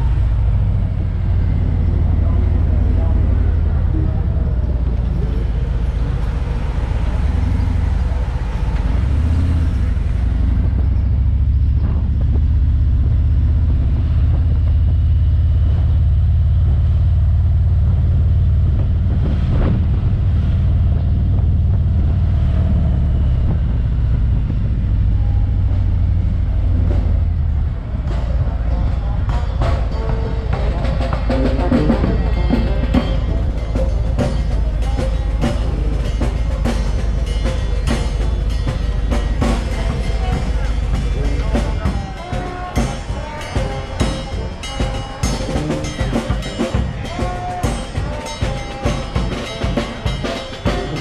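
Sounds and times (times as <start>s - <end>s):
motorcycle engine rumbling: 0.0s - 51.0s
road and traffic noise: 0.0s - 51.0s.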